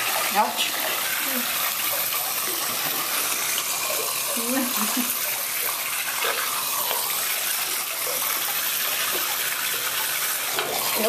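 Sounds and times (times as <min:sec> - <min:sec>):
tap water running into bathtub: 0:00.0 - 0:11.0.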